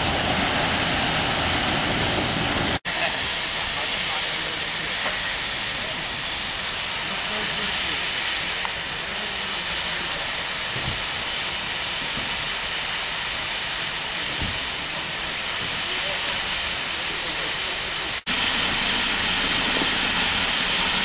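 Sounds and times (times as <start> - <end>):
steam hissing loudly: 0.0 - 21.0.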